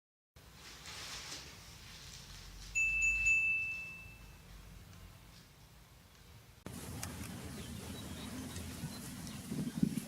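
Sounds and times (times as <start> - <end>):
outdoor background noise: 0.4 - 10.0.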